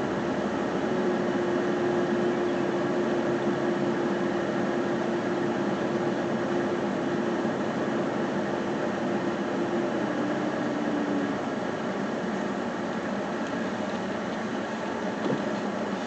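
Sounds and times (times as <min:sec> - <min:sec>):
car road and engine noise: 0:00.0 - 0:16.0
steady hum: 0:00.0 - 0:16.0.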